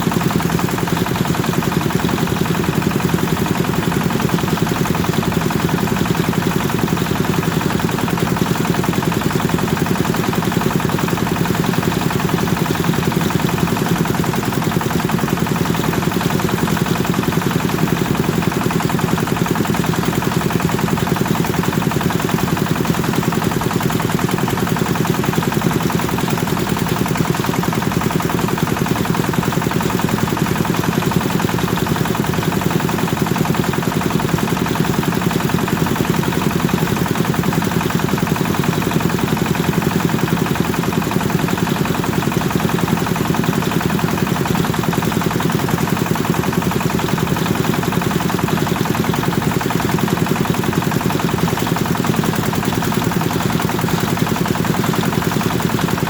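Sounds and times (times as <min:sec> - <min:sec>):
thresher engine running: 0:00.0 - 0:56.0.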